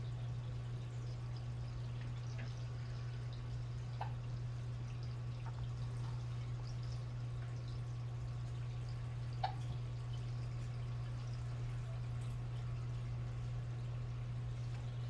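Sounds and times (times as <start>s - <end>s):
faint drip-like plinks: 0.0s - 15.0s
steady low hum: 0.0s - 15.0s.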